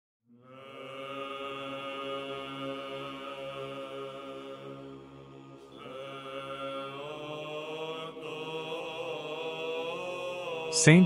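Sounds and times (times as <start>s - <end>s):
voices chanting sustained notes: 0.3s - 11.0s.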